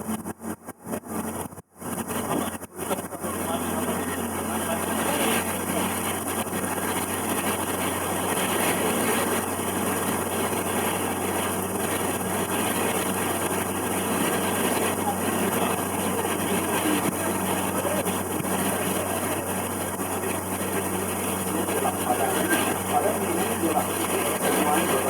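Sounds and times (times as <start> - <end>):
boat engine humming: 0.0 - 25.0
water wash noise: 1.1 - 25.0.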